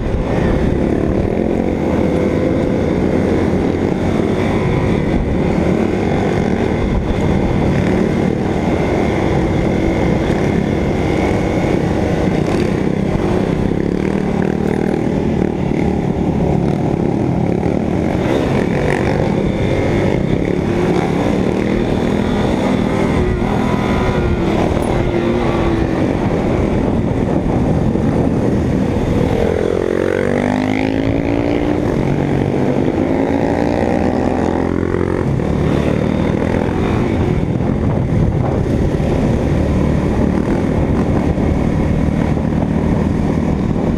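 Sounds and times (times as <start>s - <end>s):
motorcycle engine running: 0.0s - 43.9s
wind noise on microphone: 0.0s - 43.9s.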